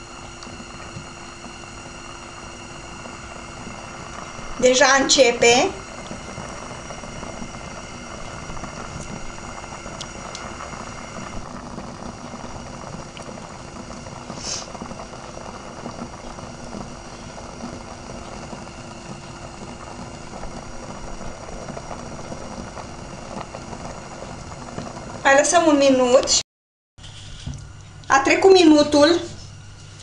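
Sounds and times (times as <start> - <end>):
milk boiling in a pot: 0.0 - 26.4, 27.0 - 30.0.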